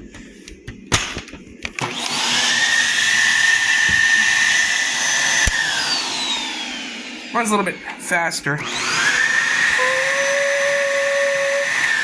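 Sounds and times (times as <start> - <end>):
vacuum motor whine: 0.0 - 12.0.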